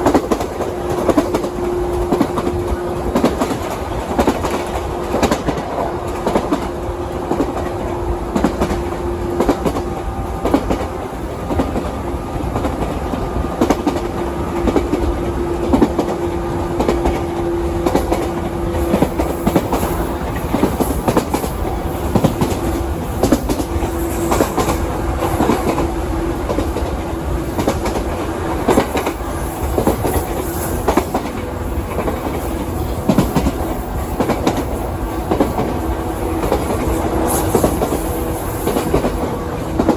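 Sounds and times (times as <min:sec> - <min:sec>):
train rumble: 0:00.0 - 0:39.9
train wheels clacking: 0:00.0 - 0:39.9.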